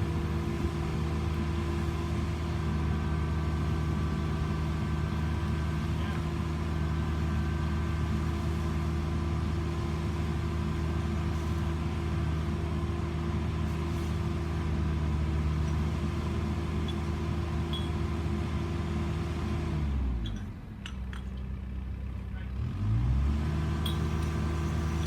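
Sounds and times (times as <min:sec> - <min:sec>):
vehicle engine running at raised revs: 0:00.0 - 0:20.4, 0:21.8 - 0:25.0.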